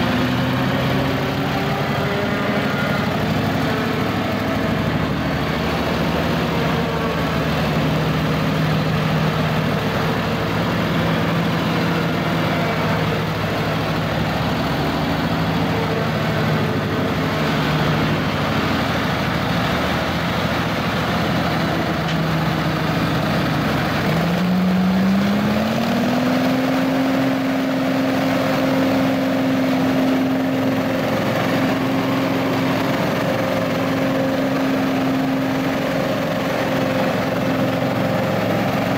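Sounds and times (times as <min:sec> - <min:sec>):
blower engine running and revving: 0:00.0 - 0:38.9.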